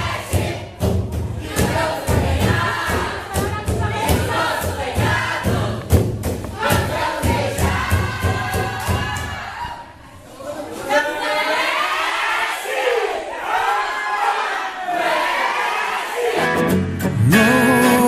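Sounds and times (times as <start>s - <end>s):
young voices singing and shouting: 0.0s - 18.0s.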